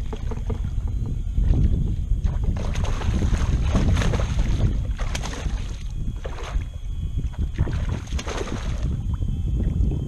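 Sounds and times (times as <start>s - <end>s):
water slapping kayak hull: 0.0s - 9.1s
wind buffeting microphone: 0.0s - 10.0s.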